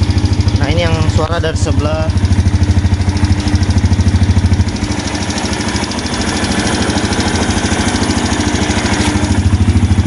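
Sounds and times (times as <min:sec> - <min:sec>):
light engine ticking: 0:00.0 - 0:10.0
motorcycle engine idling: 0:00.0 - 0:10.0.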